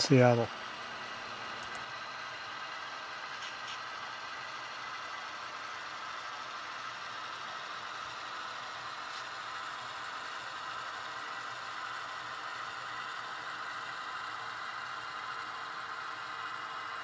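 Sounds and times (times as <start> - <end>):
model trains whirring and rattling: 0.0 - 17.0.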